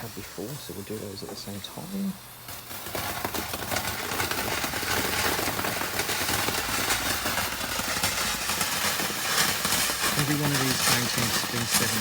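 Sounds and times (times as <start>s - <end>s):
firework fountains hissing and crackling: 0.0s - 12.0s.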